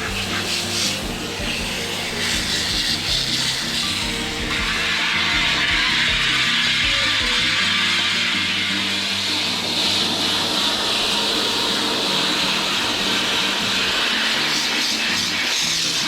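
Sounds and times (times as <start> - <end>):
background music: 0.0 - 16.0
water jet spraying: 0.0 - 16.0.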